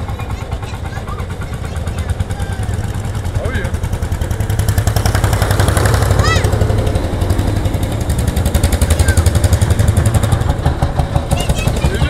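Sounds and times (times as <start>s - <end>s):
old tractor engines running: 0.0s - 12.0s.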